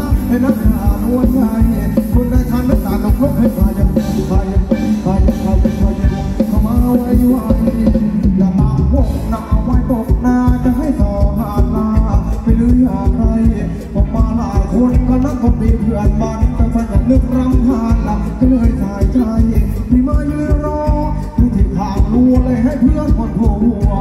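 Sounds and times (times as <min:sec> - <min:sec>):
amplified dance band music: 0:00.0 - 0:24.0
heavy drum beat: 0:00.0 - 0:24.0.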